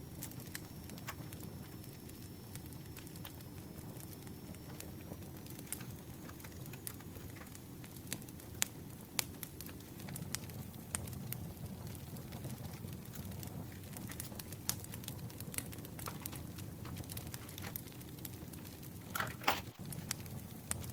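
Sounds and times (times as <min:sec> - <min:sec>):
campfire crackling: 0:00.0 - 0:20.9.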